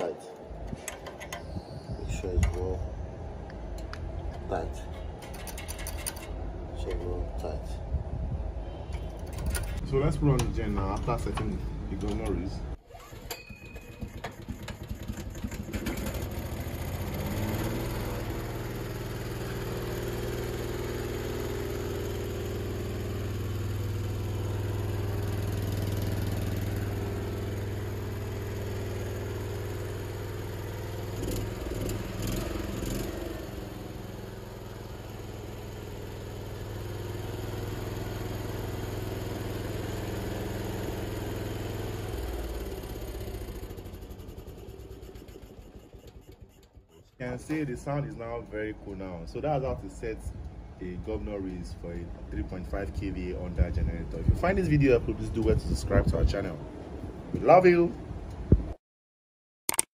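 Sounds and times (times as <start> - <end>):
generator engine running: 0.0 - 57.6.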